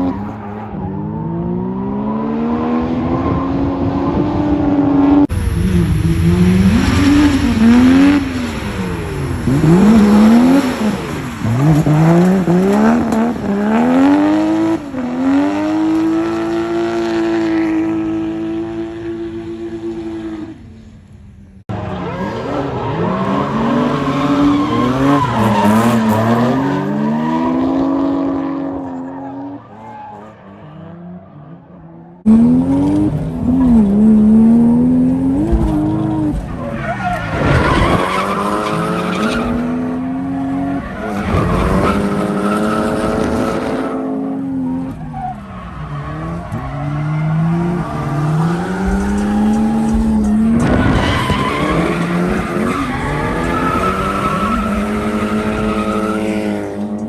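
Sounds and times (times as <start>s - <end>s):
car engine revving: 0.0s - 20.7s, 21.6s - 57.0s.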